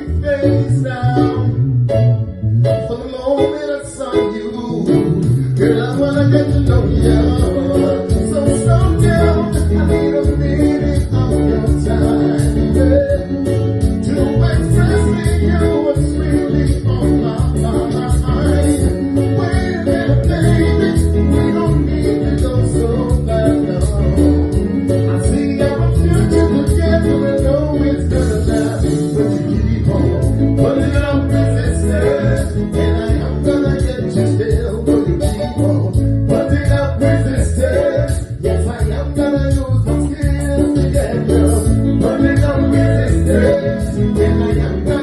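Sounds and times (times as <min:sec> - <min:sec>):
person singing: 0:00.0 - 0:01.6, 0:02.6 - 0:45.0
guitar playing: 0:00.0 - 0:45.0
steady bass line: 0:00.0 - 0:45.0.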